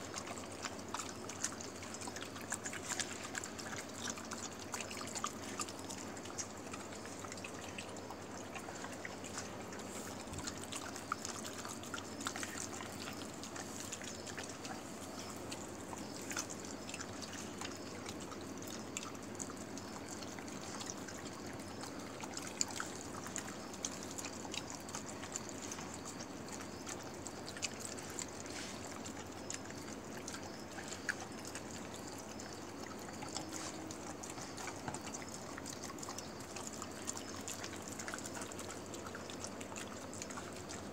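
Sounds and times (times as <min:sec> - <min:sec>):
dog lapping wet food: 0:00.0 - 0:40.9.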